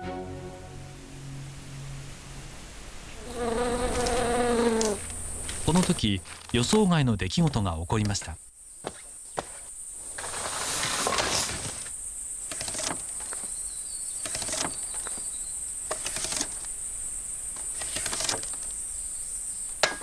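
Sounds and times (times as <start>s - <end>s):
insects droning: 0.6s - 20.0s.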